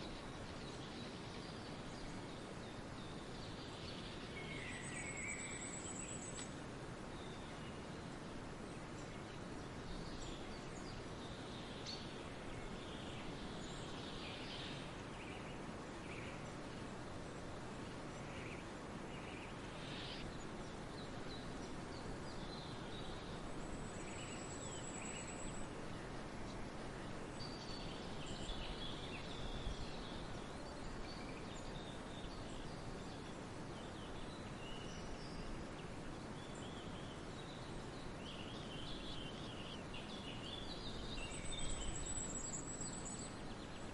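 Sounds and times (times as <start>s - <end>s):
small birds chirping: 0.0s - 43.9s
steady background hiss: 0.0s - 43.9s.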